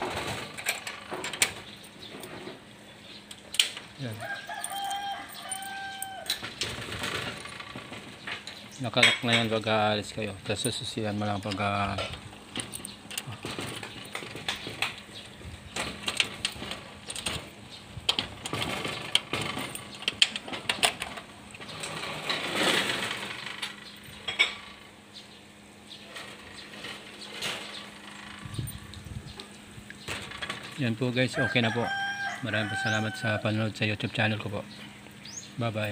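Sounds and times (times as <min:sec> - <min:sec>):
sliding screen door rattling: 0:00.0 - 0:35.9.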